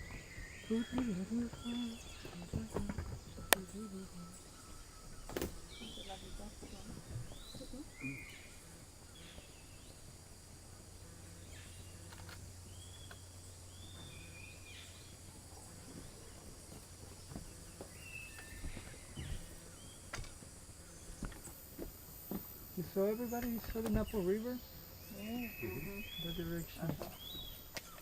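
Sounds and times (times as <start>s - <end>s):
low hum: 0.0s - 27.9s
high insect hiss: 0.0s - 28.0s.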